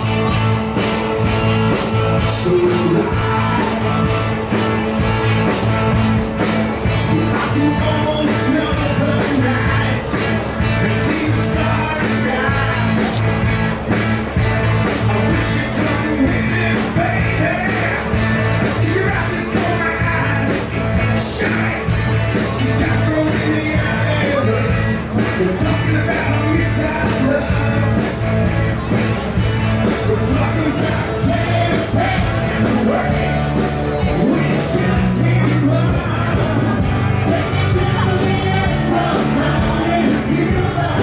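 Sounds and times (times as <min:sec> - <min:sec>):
rock and roll song with singer: 0:00.0 - 0:41.0.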